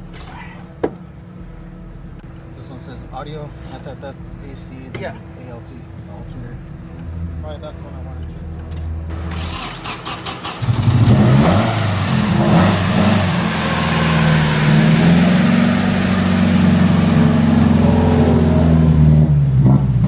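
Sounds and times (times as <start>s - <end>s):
car engine starting and running: 0.0s - 20.0s.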